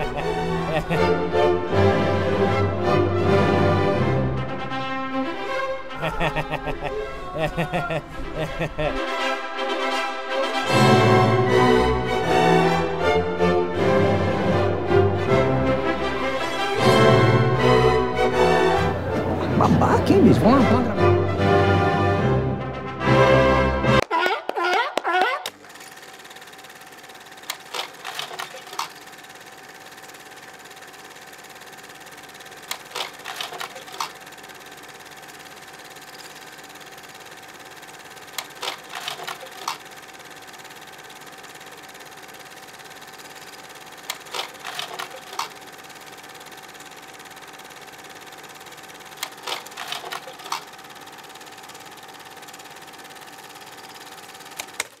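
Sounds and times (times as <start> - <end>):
projector fan hum: 0.0 - 23.9, 25.5 - 55.0.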